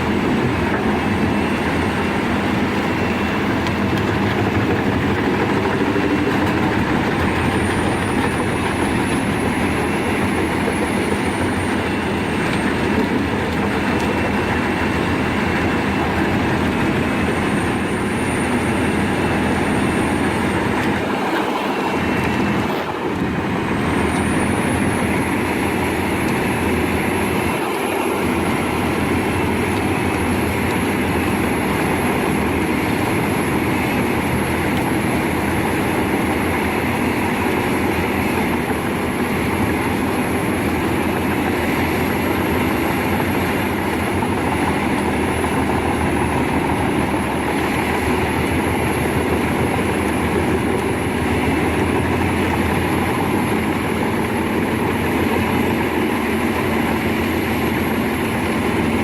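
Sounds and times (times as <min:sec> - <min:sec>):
wood chipper running: 0:00.0 - 0:59.0.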